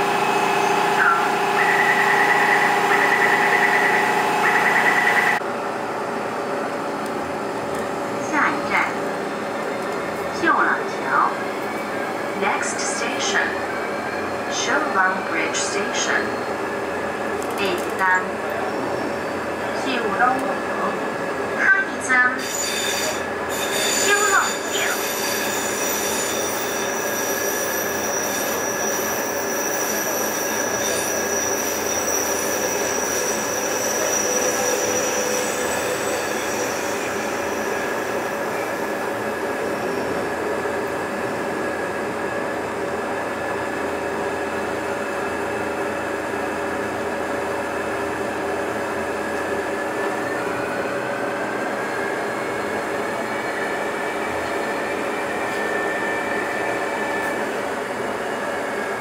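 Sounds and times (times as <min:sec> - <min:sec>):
metro train rumble: 0:00.0 - 0:59.0.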